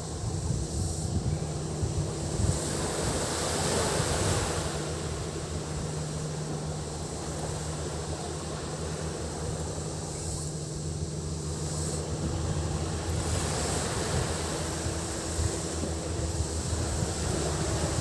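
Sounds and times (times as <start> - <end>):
cicada drone: 0.0 - 18.0
low steady hum: 0.0 - 18.0
surf washing onto beach: 0.0 - 18.0
wind on microphone: 0.0 - 18.0.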